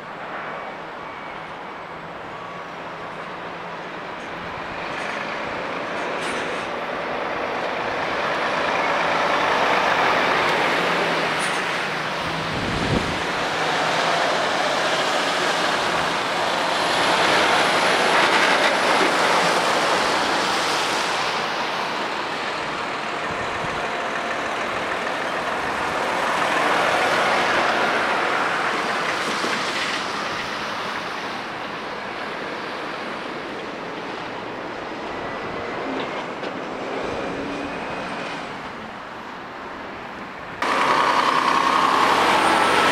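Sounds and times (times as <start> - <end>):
lorries driving past: 0.0 - 42.9.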